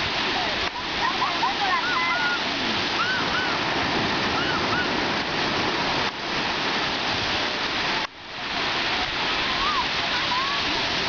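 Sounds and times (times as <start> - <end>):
sea surf breaking: 0.0 - 11.0.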